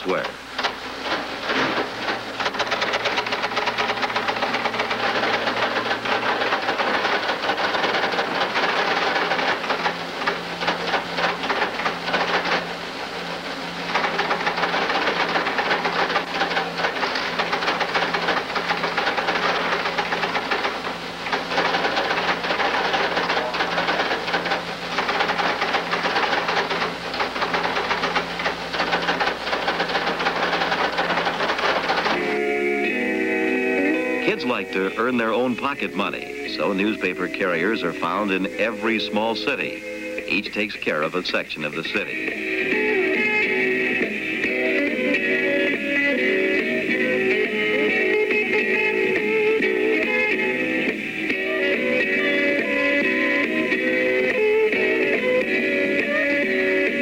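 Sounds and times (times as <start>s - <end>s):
machine mechanical clatter: 0.0s - 57.0s
steady machine hum: 0.0s - 57.0s.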